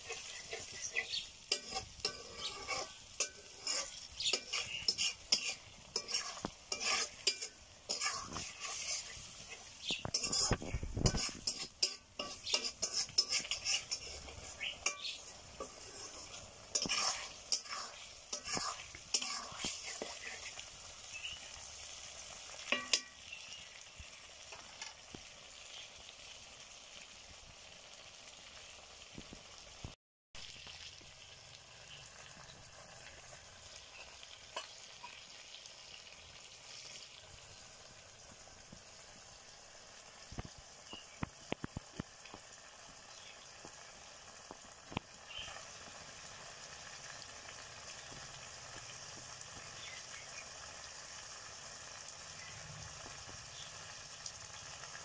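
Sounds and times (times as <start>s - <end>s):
gravy sizzling in a pan: 0.0s - 55.0s.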